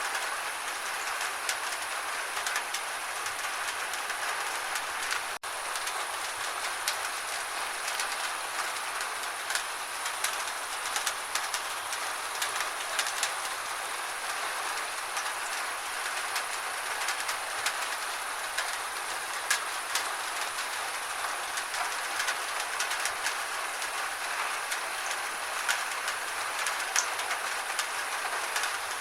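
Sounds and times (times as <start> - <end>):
steady rain with drop clicks: 0.0 - 29.0.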